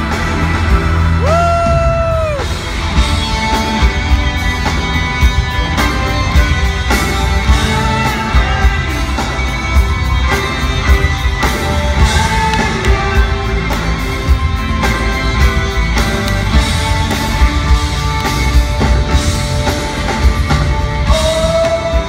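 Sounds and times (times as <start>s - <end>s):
drum kit beat: 0.0s - 22.0s
live rock band: 0.0s - 22.0s.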